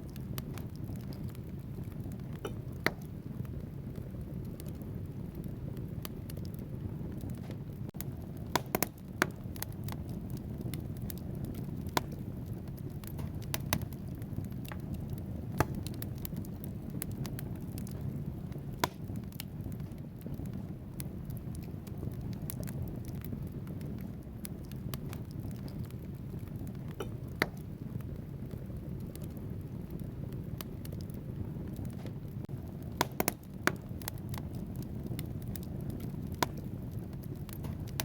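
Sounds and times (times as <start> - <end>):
fire crackling in fireplace: 0.0 - 38.0.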